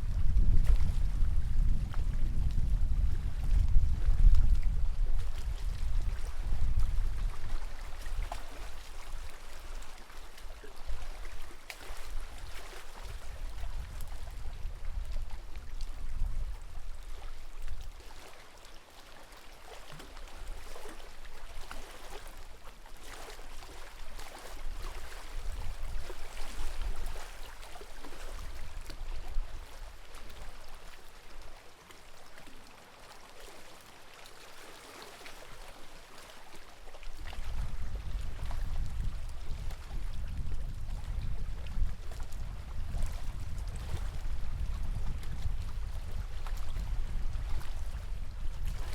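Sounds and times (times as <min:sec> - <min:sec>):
lake water lapping and splashing: 0:00.1 - 0:48.9.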